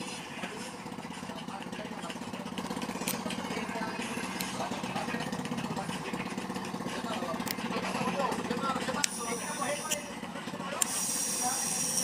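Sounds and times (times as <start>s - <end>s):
motor fluttering hum: 0.0s - 12.0s.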